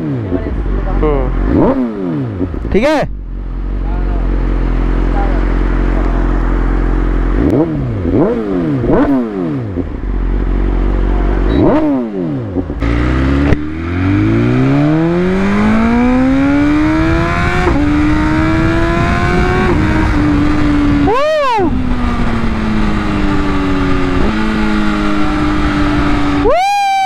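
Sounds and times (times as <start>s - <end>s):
motorcycle accelerating: 0.0s - 27.0s
motorcycle engine revving: 0.0s - 27.0s.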